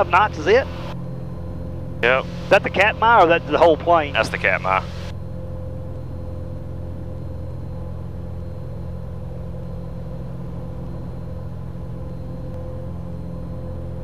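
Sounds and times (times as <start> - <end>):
airplane engine and propeller drone: 0.0 - 14.0.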